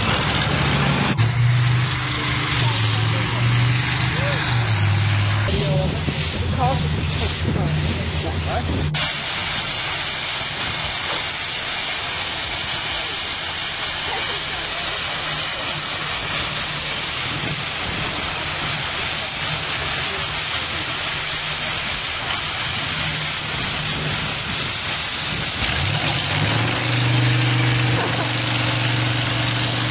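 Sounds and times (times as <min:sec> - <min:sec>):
low engine hum: 0:00.0 - 0:29.9
steam hissing: 0:00.6 - 0:29.9.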